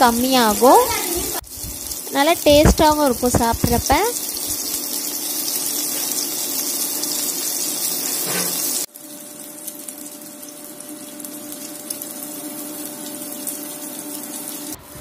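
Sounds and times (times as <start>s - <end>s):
chicken sizzling in oil: 0.0s - 14.8s.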